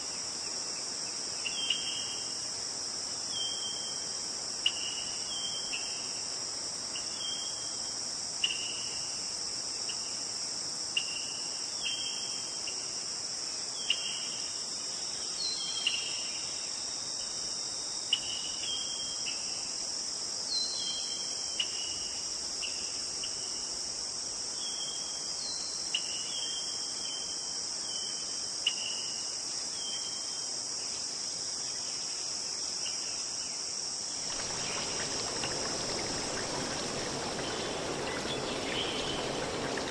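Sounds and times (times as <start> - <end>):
crickets chorus: 0.0 - 39.9.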